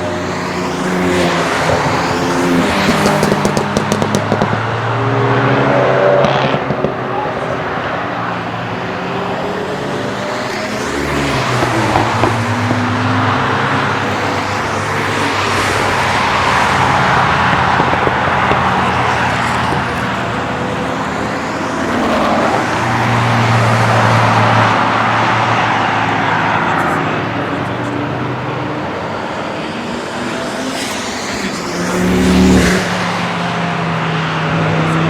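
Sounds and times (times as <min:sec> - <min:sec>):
cars driving past revving: 0:00.0 - 0:35.0.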